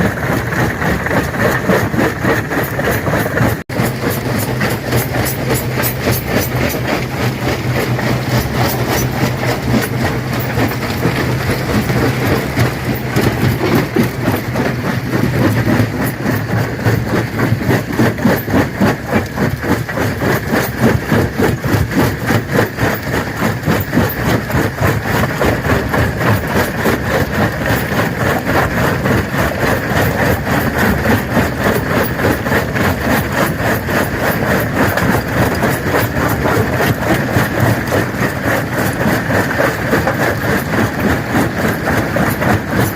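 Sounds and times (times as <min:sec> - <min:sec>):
low machine hum: 0:00.0 - 0:42.9
stone crusher crushing rock: 0:00.0 - 0:42.9.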